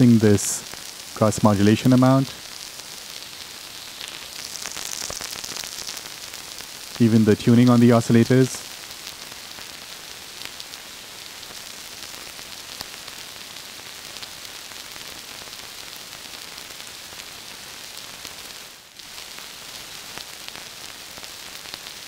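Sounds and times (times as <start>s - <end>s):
synth rain-like hiss: 0.0s - 22.0s.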